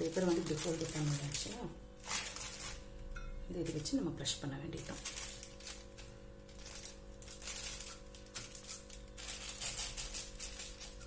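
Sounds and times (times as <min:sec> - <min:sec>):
plastic sheet crinkling: 0:00.0 - 0:02.9, 0:04.7 - 0:11.0
steady low hum: 0:00.0 - 0:11.0.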